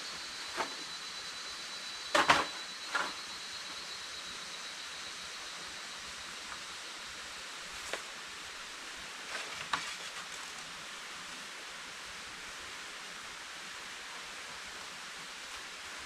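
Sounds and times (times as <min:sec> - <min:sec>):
forest ambience hiss: 0:00.0 - 0:16.0.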